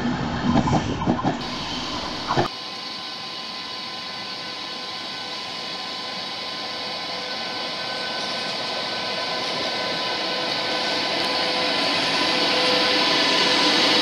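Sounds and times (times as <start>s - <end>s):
electric locomotive whine and rumble: 0.0s - 14.0s.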